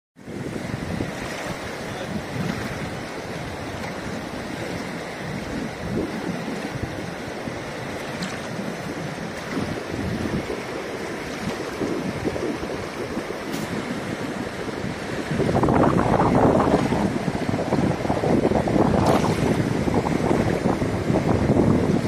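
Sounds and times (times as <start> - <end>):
river rushing over stones: 0.2 - 22.0
wind buffeting microphone: 0.2 - 22.0.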